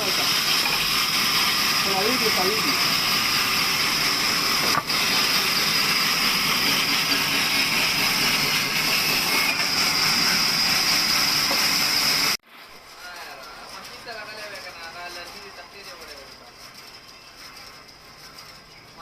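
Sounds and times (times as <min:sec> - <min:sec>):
sawmill saw whining: 0:00.0 - 0:19.0.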